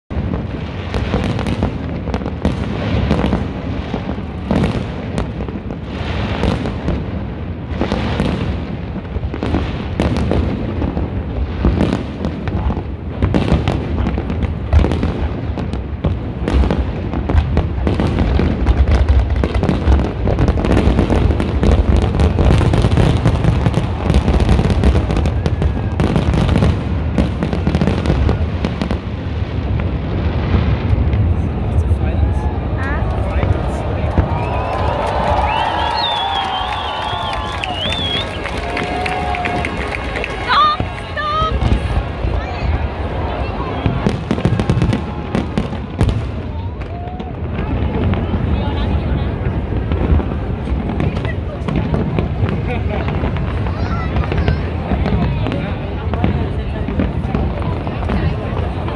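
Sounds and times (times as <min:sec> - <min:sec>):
fireworks exploding: 0:00.1 - 0:58.9.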